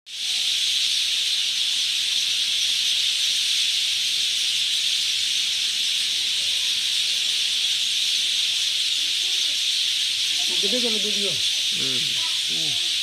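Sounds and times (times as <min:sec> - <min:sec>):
chorus of small animals chirping: 0:00.1 - 0:13.0.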